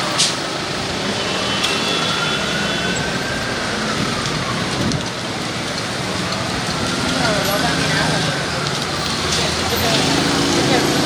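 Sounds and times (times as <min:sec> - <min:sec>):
police siren wailing: 0:00.0 - 0:11.0
street traffic hiss: 0:00.0 - 0:11.0.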